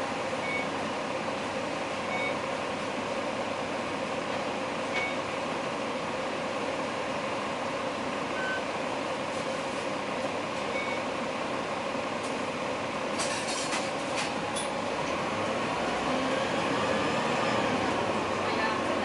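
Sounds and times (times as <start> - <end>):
bus engine drone and whine: 0.0 - 19.0.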